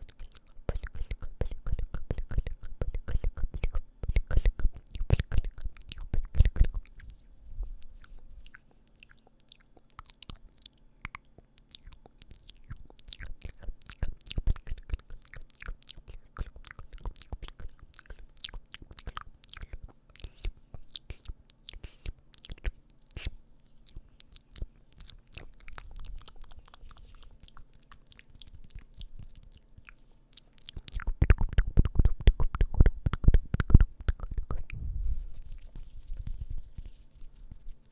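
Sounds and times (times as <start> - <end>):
wet mouth clicks and smacks: 0.0 - 7.2, 7.8 - 37.5.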